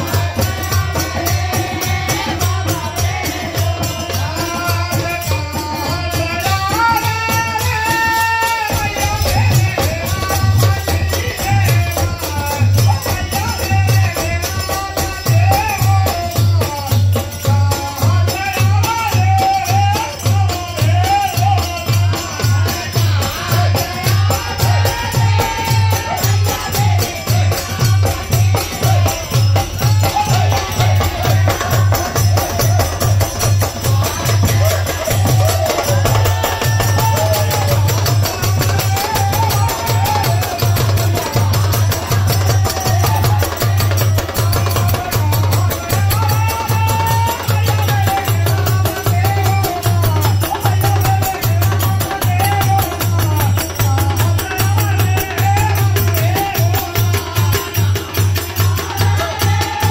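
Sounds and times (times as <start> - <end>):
jingling percussion: 0.0 - 59.9
regular drum beat: 0.0 - 59.9.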